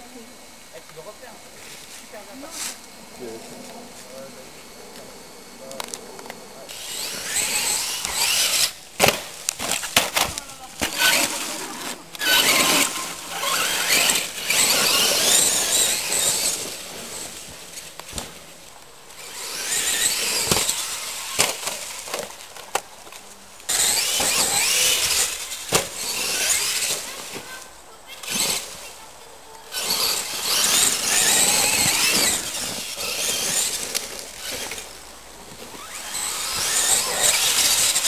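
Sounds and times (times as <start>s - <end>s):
electric motor whine: 0.0s - 38.0s.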